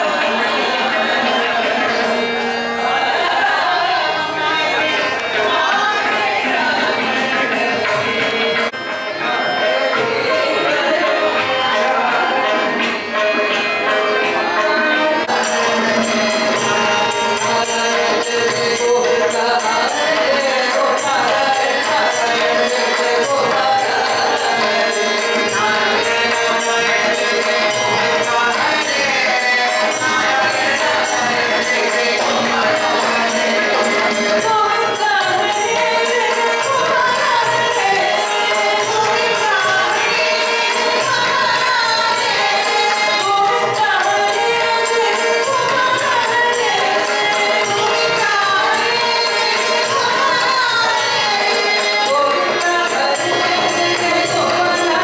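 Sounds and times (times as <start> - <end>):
women singing a devotional song: 0.0 - 13.2, 14.2 - 55.0
instrumental accompaniment: 0.0 - 55.0
metallic jingling percussion beat: 0.0 - 55.0.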